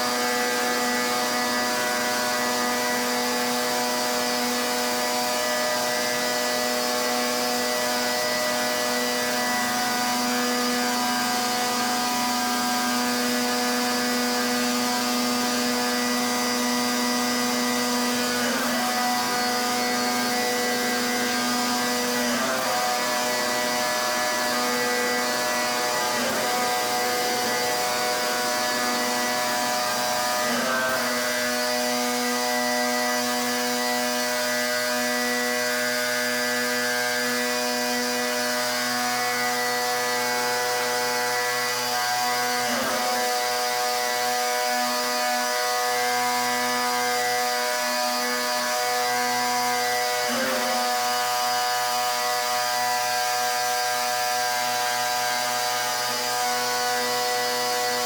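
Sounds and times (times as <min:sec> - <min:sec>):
pressure washer motor hum: 0:00.0 - 0:58.0.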